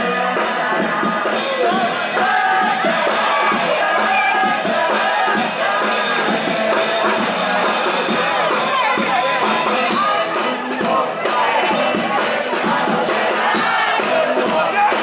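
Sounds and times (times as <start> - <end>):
crowd singing along and shouting: 0.0 - 15.0
upbeat pop music with drums: 0.0 - 15.0.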